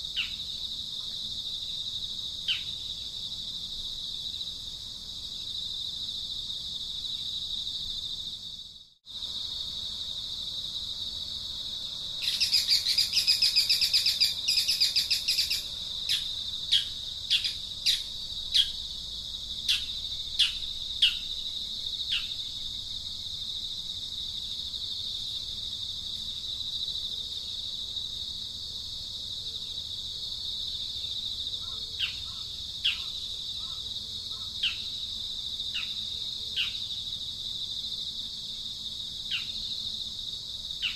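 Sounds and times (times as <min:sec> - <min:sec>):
high-pitched insect trill: 0:00.0 - 0:40.9.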